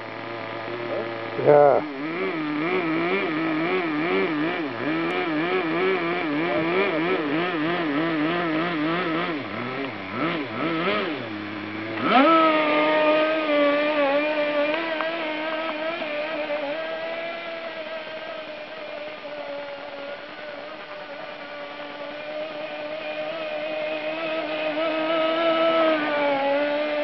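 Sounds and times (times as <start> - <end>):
model engine idling and revving: 0.0 - 27.0.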